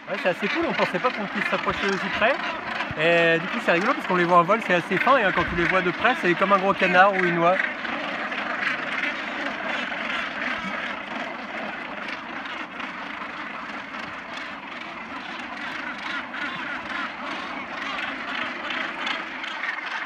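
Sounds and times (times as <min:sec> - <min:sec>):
gannet colony calling: 0:00.0 - 0:20.0.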